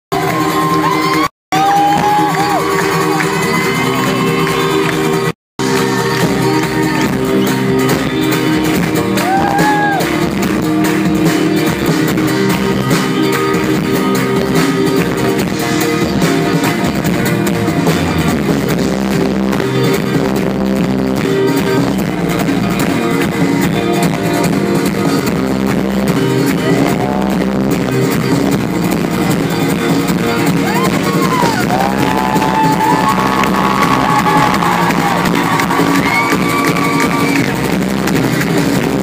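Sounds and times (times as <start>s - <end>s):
live rock band playing: 0.1s - 39.0s.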